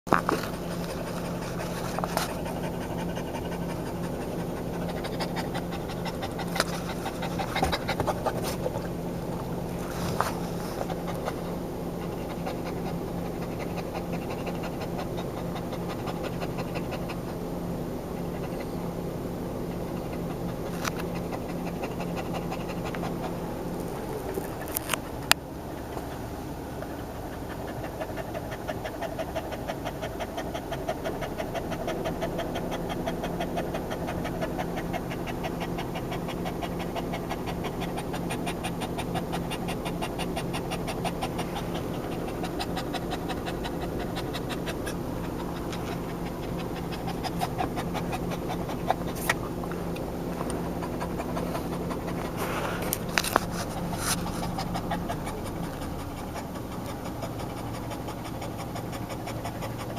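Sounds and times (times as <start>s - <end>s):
dog panting fast: 0.1s - 59.9s.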